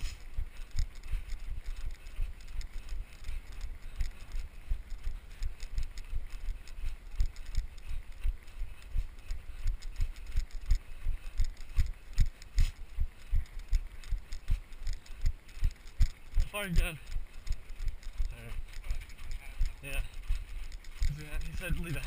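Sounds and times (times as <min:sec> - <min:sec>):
footsteps crunching in snow: 0:00.0 - 0:22.0.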